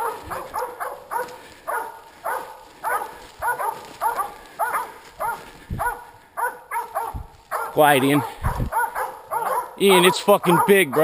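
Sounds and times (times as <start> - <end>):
dogs baying: 0.0 - 11.0.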